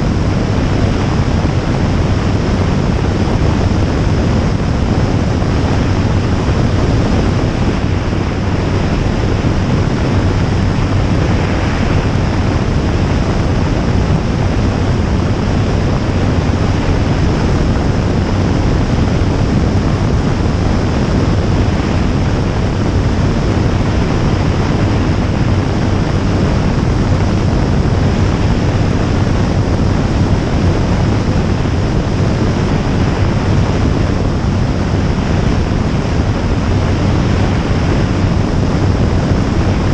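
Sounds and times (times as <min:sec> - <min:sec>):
heavy wind rush: 0:00.0 - 0:39.9
light aircraft engine drone: 0:00.0 - 0:39.9.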